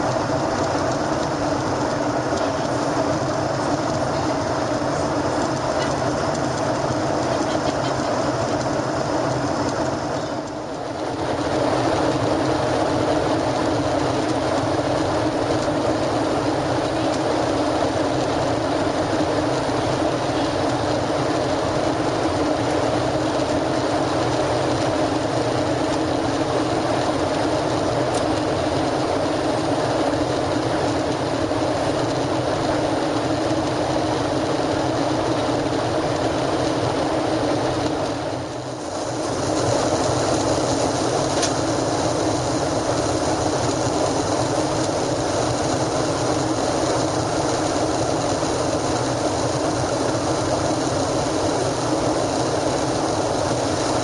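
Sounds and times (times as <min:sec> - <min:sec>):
airplane cabin engine rush: 0:00.0 - 0:54.0.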